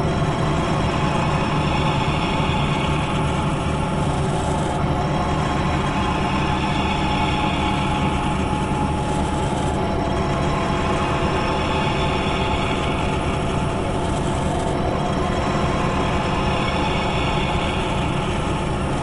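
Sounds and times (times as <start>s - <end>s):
machinery drone and rumble: 0.0s - 19.0s.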